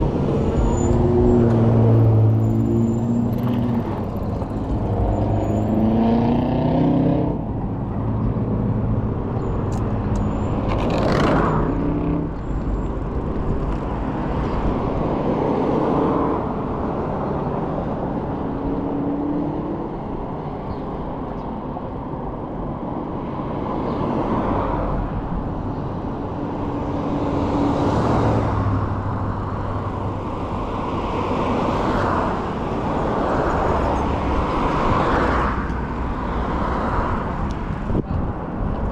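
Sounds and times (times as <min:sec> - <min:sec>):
cars passing close by: 0:00.0 - 0:38.9
low traffic rumble: 0:00.0 - 0:38.9.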